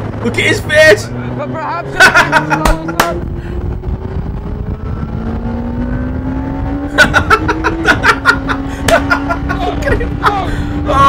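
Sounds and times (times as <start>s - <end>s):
motorcycle engine pulling hard: 0.0s - 11.0s
wind and road noise: 0.0s - 11.0s.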